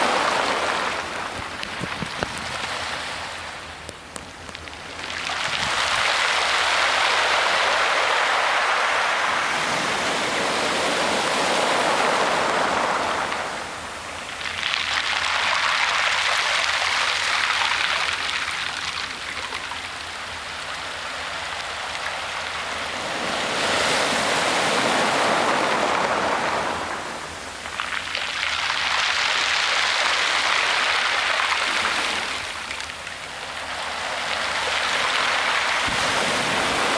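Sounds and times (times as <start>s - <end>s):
sea waves washing onto shingle: 0.0s - 36.9s.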